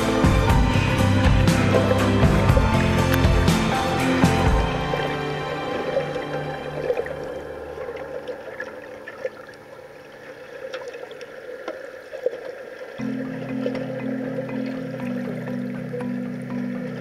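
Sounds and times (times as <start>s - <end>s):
background music: 0.0s - 11.2s, 13.0s - 17.0s.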